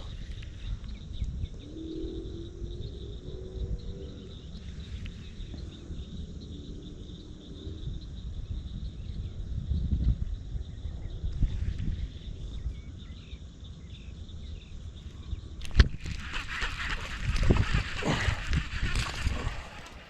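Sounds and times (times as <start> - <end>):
crickets chirping: 0.0 - 20.0
low rumble on microphone: 0.0 - 20.0.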